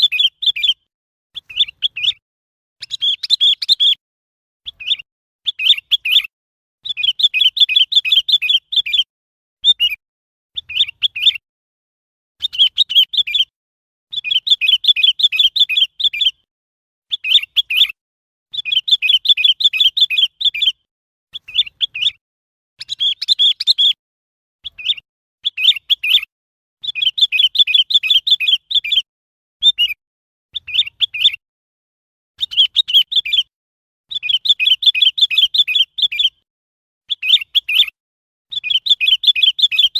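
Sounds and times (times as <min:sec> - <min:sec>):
bird chirping: 0:00.0 - 0:02.2, 0:02.8 - 0:04.0, 0:04.6 - 0:11.4, 0:12.4 - 0:13.5, 0:14.1 - 0:16.5, 0:17.1 - 0:22.2, 0:22.8 - 0:24.0, 0:24.6 - 0:30.0, 0:30.6 - 0:31.4, 0:32.4 - 0:33.5, 0:34.1 - 0:36.4, 0:37.1 - 0:39.9.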